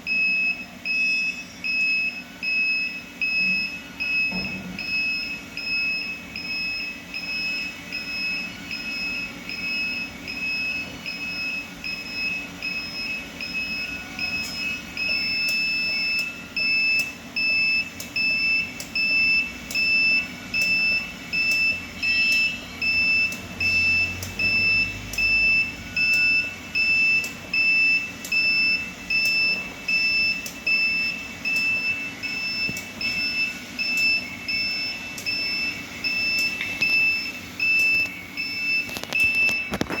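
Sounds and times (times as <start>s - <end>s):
electronic beeper beeping: 0.0s - 40.0s.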